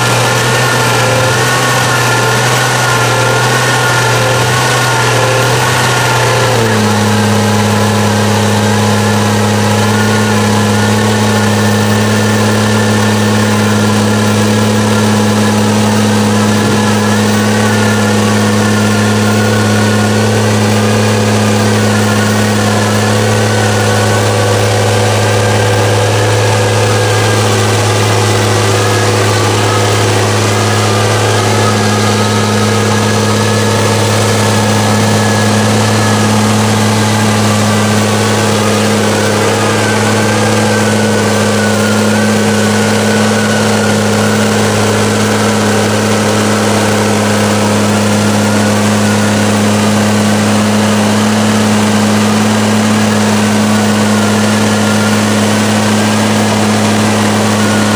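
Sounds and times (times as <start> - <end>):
diesel truck engine revving high: 0.0 - 57.9
wavering whine: 0.0 - 57.9.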